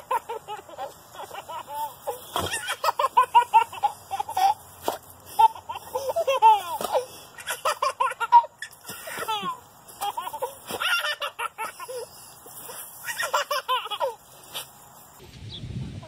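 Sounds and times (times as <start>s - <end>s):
toddler giggling: 0.0s - 4.7s, 5.4s - 14.2s.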